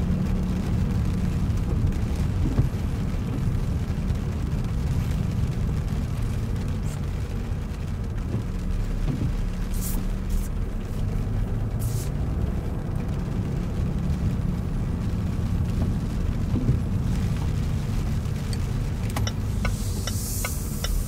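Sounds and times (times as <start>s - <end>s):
car engine and tyres droning: 0.0s - 21.0s.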